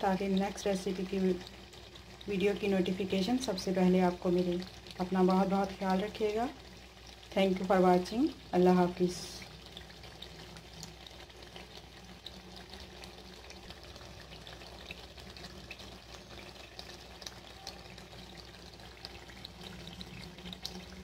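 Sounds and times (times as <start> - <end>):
curry sizzling in oil: 0.0 - 21.0.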